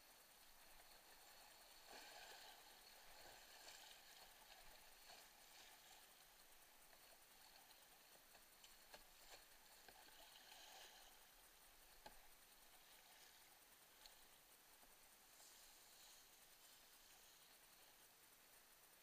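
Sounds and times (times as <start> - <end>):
rushing creek water: 0.0 - 18.1.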